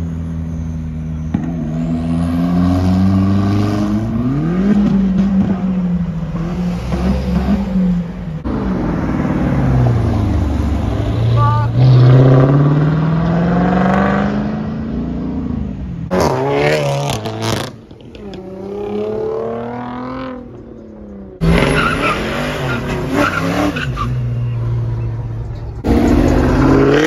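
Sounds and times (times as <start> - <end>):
cars accelerating past: 1.3 - 25.0, 25.8 - 27.0.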